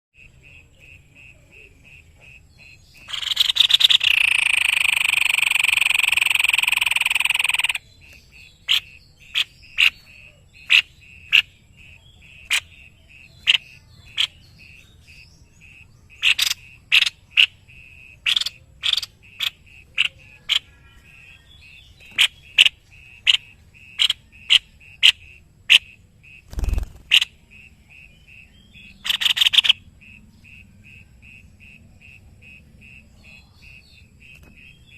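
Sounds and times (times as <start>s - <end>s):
babbler calling: 0.2s - 34.9s.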